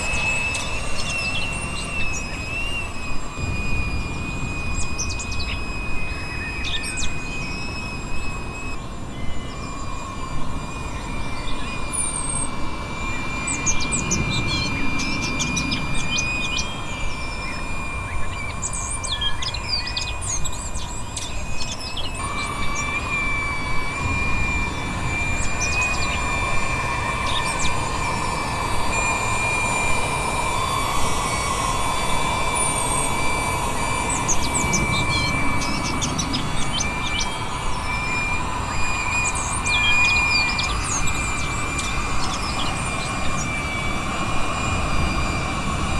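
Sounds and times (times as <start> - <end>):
bird chirps and calls: 0.0 - 30.6, 31.2 - 43.9
motor whine and hum: 0.0 - 45.9.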